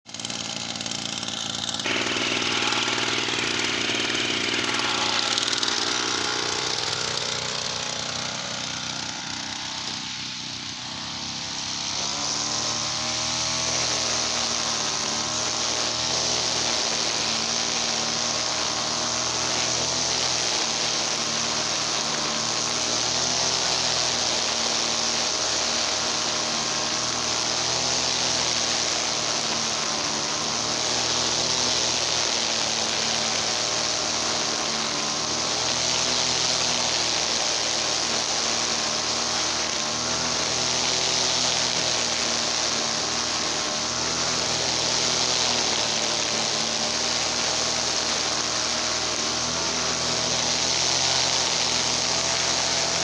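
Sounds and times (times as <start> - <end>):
brush cutter engine running: 0.1 - 53.0.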